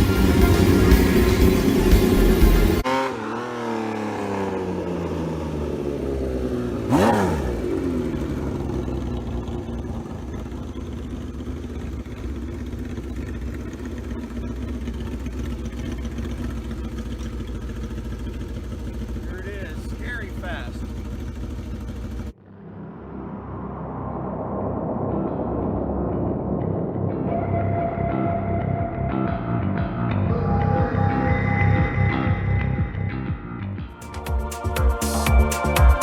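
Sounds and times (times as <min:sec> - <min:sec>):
motorcycle passing loudly: 0:00.0 - 0:28.8
low engine note: 0:00.0 - 0:36.0.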